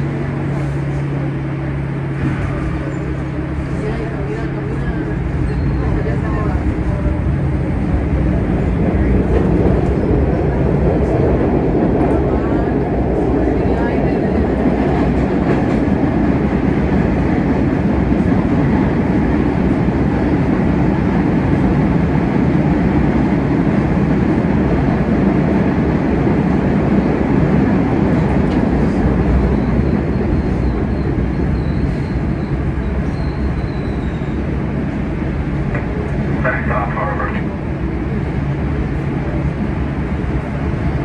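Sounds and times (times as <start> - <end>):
subway car rumbling on rails: 0.0 - 41.0.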